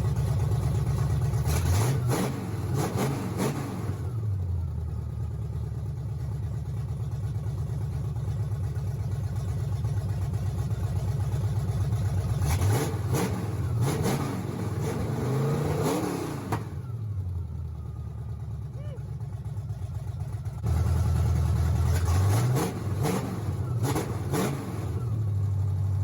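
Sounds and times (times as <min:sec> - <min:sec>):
v-eight engine idling and revving: 0:00.0 - 0:26.0.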